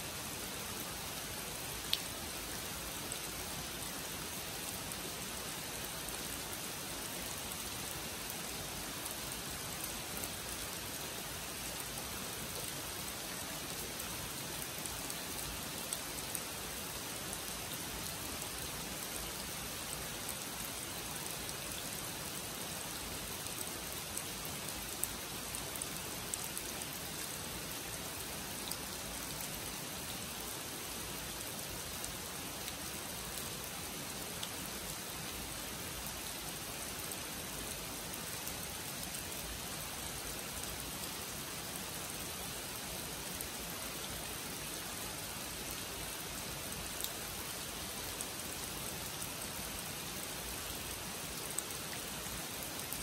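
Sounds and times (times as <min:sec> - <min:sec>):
rain falling on pond and leaves: 0:00.0 - 0:53.0.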